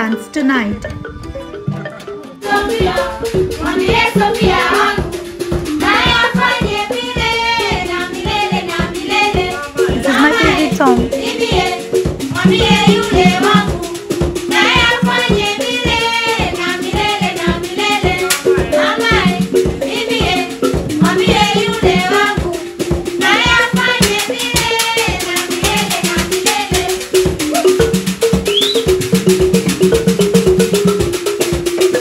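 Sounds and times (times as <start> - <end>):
hand drums: 0.0 - 32.0
voices singing: 0.8 - 30.8.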